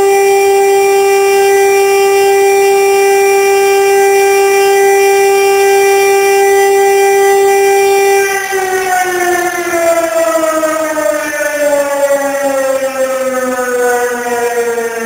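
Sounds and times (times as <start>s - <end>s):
fire station siren steady tone: 0.0s - 15.0s.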